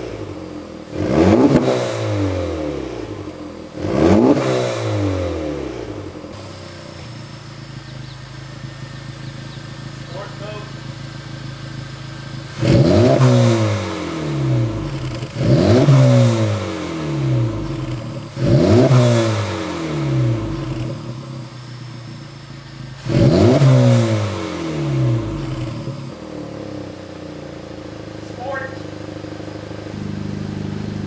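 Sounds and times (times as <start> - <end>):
car engine idling: 0.0 - 31.0
car engine revving: 0.0 - 31.0.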